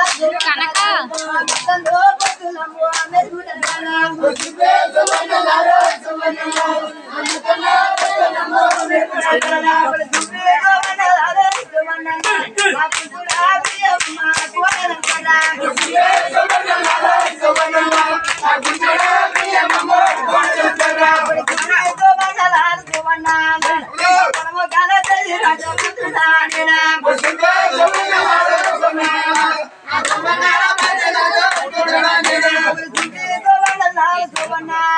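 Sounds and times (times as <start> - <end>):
group singing a chant: 0.0 - 34.9
rhythmic hand clapping: 0.0 - 34.9.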